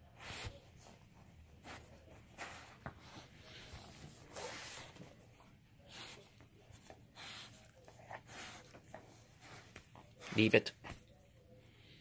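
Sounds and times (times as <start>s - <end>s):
dog snuffling: 0.0s - 10.5s.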